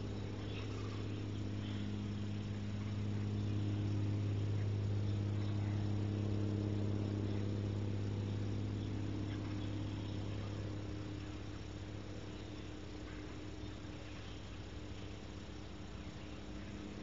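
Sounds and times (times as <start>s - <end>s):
electrical hum with buzzing: 0.0s - 17.0s
faint hiss: 0.0s - 17.0s.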